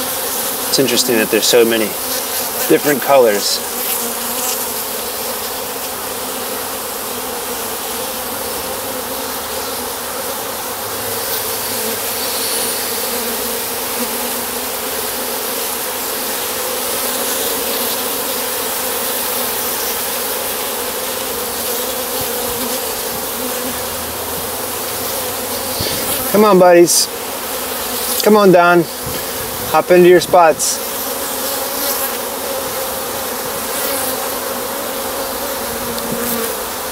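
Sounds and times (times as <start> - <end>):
honeybees buzzing: 0.0 - 36.9.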